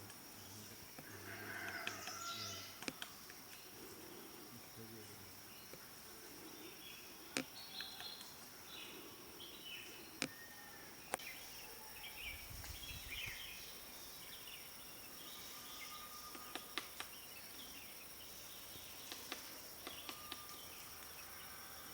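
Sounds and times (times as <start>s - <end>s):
birds chirping softly: 0.0s - 21.9s
insects droning: 0.0s - 21.9s.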